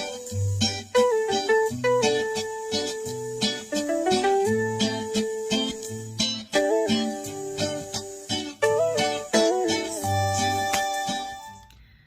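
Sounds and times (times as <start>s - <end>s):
light regular beat: 0.0s - 11.6s
plucked string melody: 0.0s - 11.6s.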